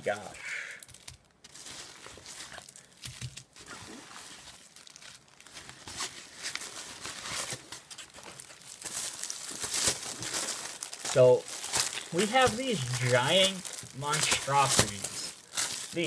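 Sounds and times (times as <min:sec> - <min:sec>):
plastic packaging crinkling: 0:00.8 - 0:16.0.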